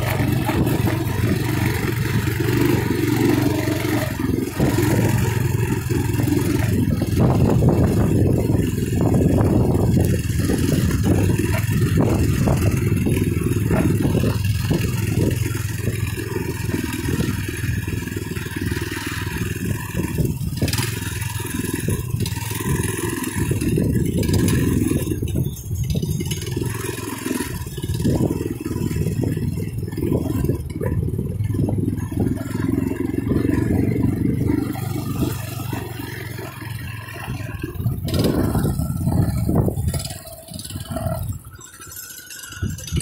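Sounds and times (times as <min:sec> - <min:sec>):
bike knocking and clattering: 0:00.0 - 0:43.0
small motorbike engine running: 0:00.0 - 0:43.0.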